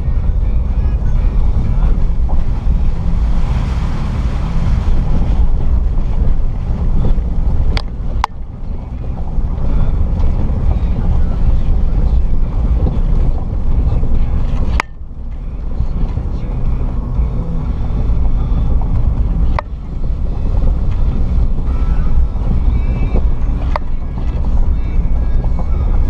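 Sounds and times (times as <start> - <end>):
engine and tyres rumbling: 0.0 - 26.0
wind buffeting microphone: 0.0 - 26.0.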